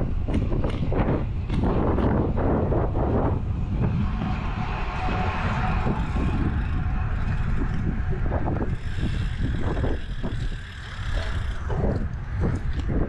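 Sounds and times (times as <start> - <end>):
wind buffeting microphone: 0.0 - 13.0
tyres rolling on asphalt: 0.2 - 13.0.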